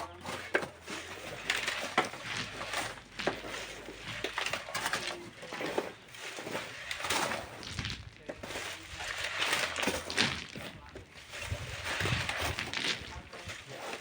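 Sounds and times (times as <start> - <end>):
hand tools scraping sand and stone: 0.0 - 14.0.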